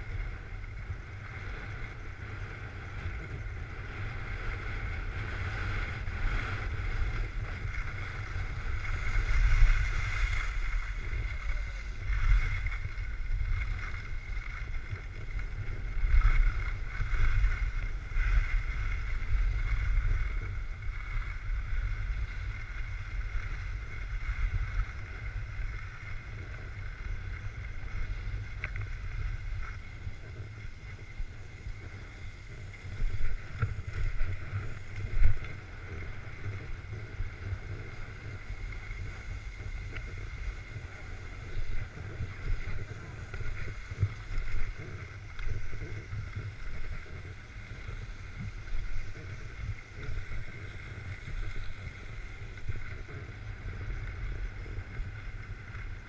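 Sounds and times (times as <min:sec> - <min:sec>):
skis sliding on snow: 0:00.0 - 0:56.0
wind rumbling on microphone: 0:00.0 - 0:56.0.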